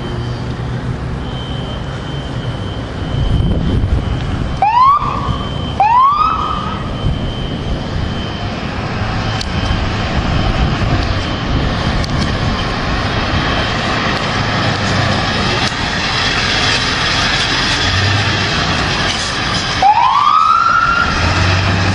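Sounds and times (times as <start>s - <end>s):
rumble of engines and traffic: 0.0s - 21.9s
fire truck siren whoops: 1.1s - 21.9s.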